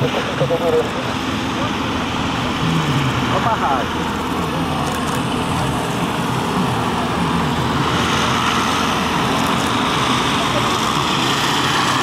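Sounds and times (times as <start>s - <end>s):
light aircraft engines droning: 0.0s - 12.0s.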